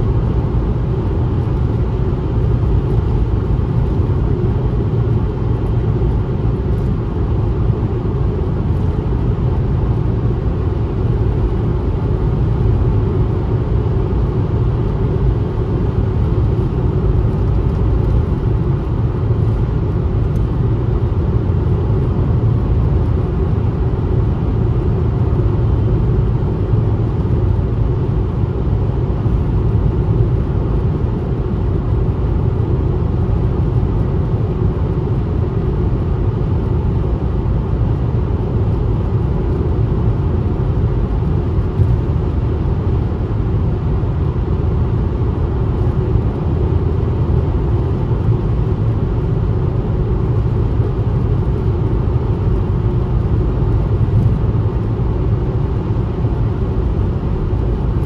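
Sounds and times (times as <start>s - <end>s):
car driving at highway speed: 0.0s - 58.0s.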